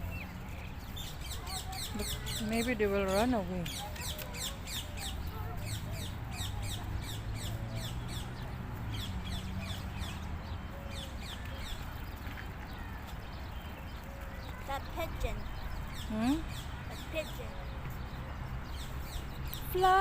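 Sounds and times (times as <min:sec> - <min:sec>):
flock of birds chirping: 0:00.0 - 0:20.0.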